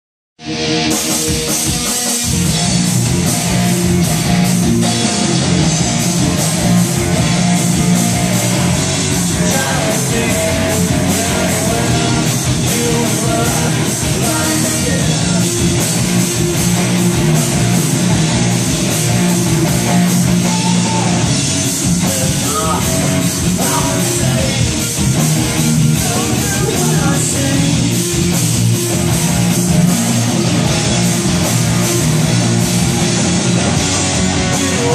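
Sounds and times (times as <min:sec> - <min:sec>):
distorted electric guitars: 0:00.4 - 0:34.9.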